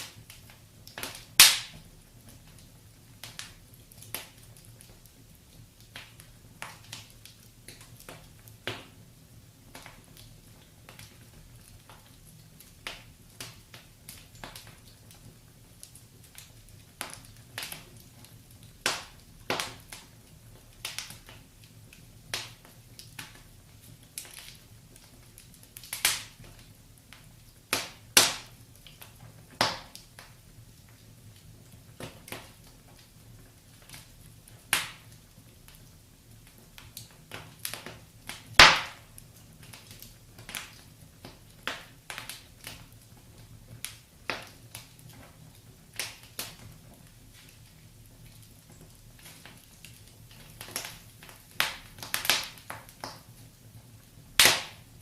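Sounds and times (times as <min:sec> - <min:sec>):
faint steady hiss: 0:00.0 - 0:55.0
wood fire crackling and popping: 0:00.0 - 0:55.0.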